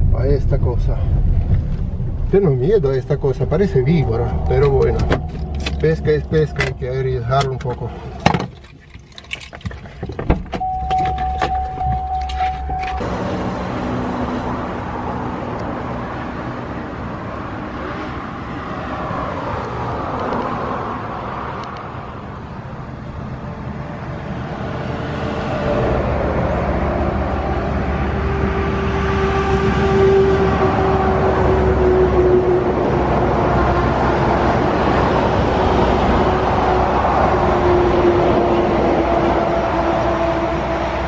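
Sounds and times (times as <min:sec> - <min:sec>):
car engine hum: 0:00.0 - 0:41.0
road noise: 0:00.0 - 0:41.0.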